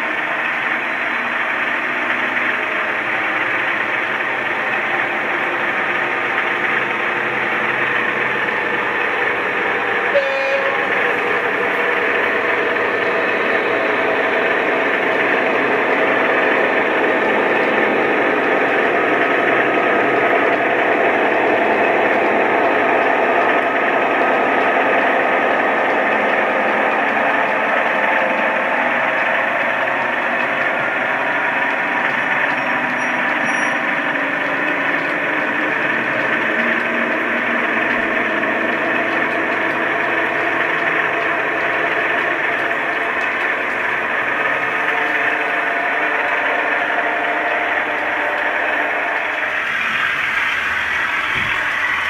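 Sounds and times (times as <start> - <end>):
model locomotive engine sound: 0.0 - 52.0.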